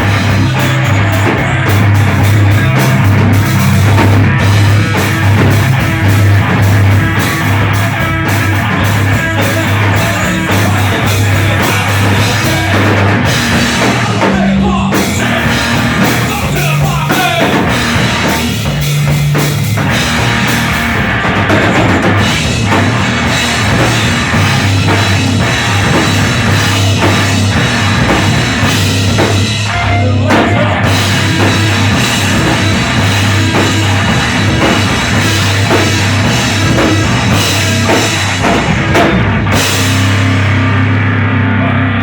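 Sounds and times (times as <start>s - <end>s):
drum kit: 0.0s - 42.0s
live rock band playing: 0.0s - 42.0s.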